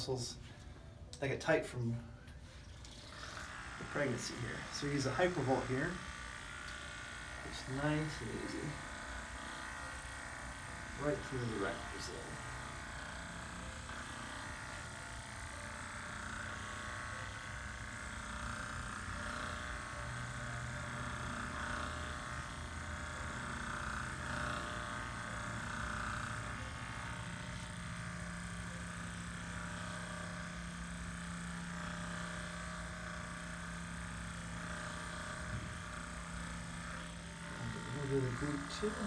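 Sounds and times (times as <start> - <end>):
massage gun motor hum: 2.0 - 39.0.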